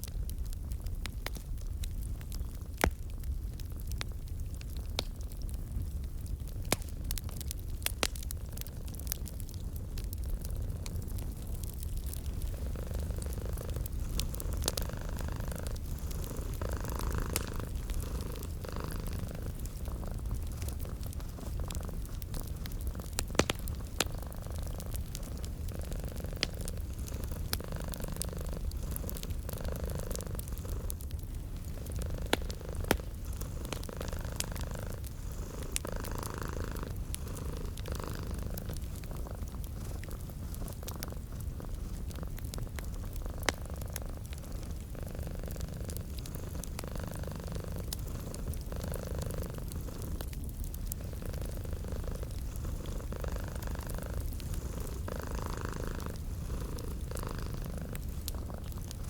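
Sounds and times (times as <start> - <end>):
wood fire crackling: 0.0 - 59.0
cat purring: 4.6 - 59.0.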